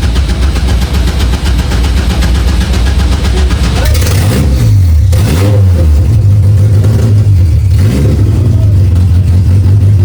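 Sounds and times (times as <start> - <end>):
race car engine running: 0.0 - 10.0.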